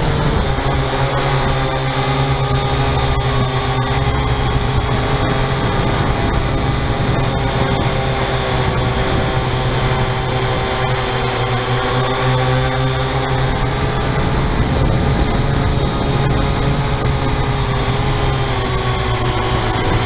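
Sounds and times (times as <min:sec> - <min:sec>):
drone motors buzzing: 0:00.0 - 0:20.0.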